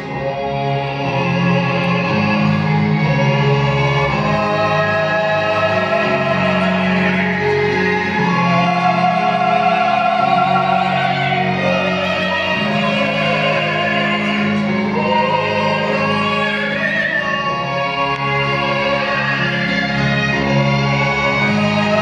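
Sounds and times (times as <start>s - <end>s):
operatic voice singing: 0.0s - 22.0s
orchestra playing: 0.0s - 22.0s.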